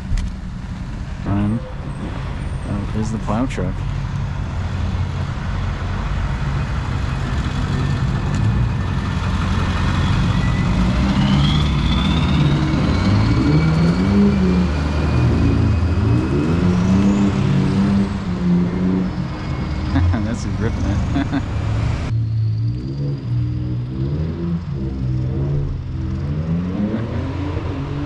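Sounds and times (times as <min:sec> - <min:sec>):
high engine whine: 0:00.0 - 0:28.0
vehicle engine revving: 0:04.5 - 0:28.0.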